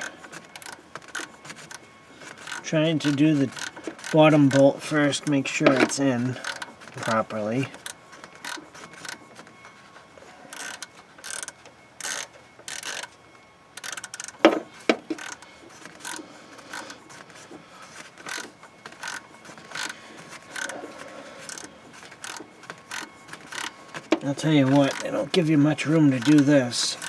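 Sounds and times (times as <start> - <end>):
socket ratchet clicking: 0.0 - 9.2, 10.6 - 13.1, 13.8 - 17.2, 17.9 - 24.1, 24.7 - 25.4, 26.2 - 27.0.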